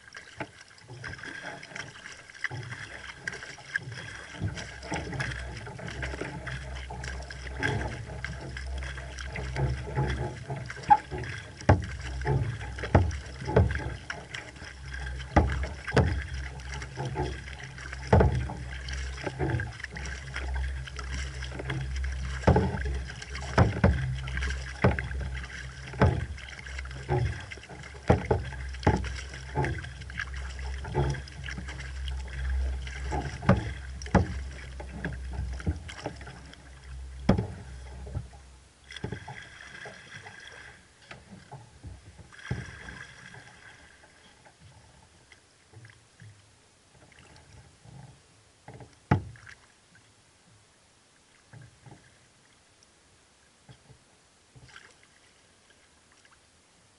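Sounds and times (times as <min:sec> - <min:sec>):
paddle dipping and splashing: 0:00.0 - 0:56.9
water rushing along kayak hull: 0:00.0 - 0:56.9.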